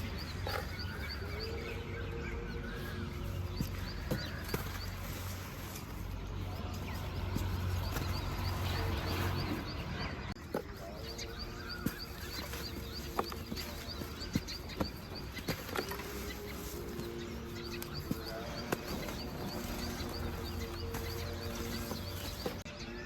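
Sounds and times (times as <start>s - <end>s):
animal calls: 0.0s - 22.6s.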